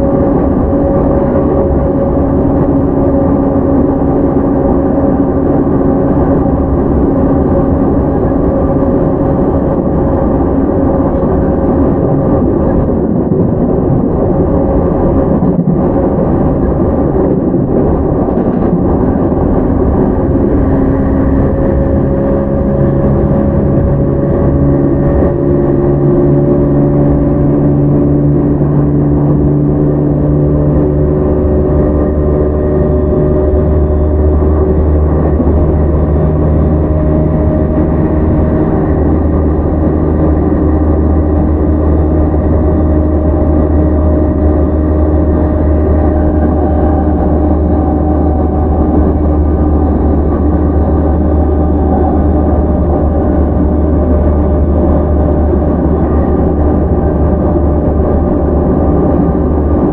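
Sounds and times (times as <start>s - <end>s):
traction motor hum and whine: 0.0s - 59.9s
train rail running noise: 0.0s - 59.9s.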